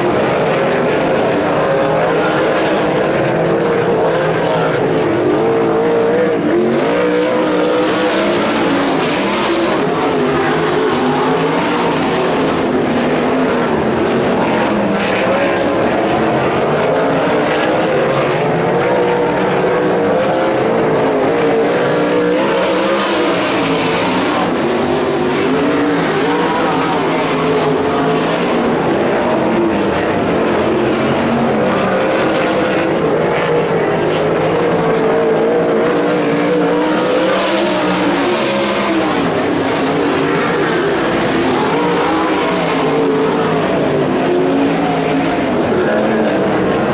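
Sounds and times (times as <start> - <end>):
race car engines running hard: 0.0 - 46.9.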